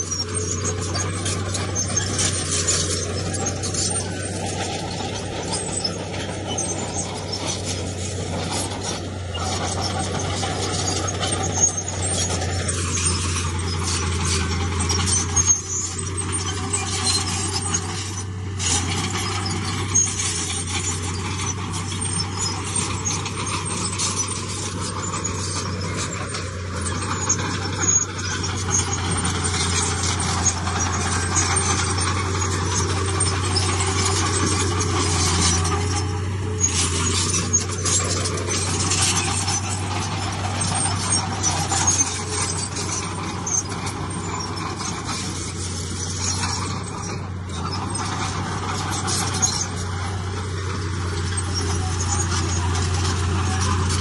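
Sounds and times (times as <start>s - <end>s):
diesel machinery engine drone: 0.0s - 54.0s
stone and metal clattering: 0.0s - 54.0s.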